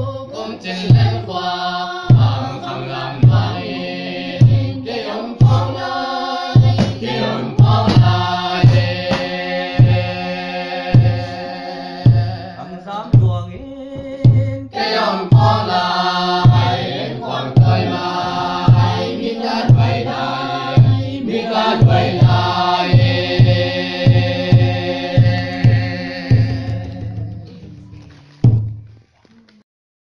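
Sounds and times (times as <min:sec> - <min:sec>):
group of voices singing: 0:00.0 - 0:27.8
low steady drum beat: 0:00.0 - 0:28.9.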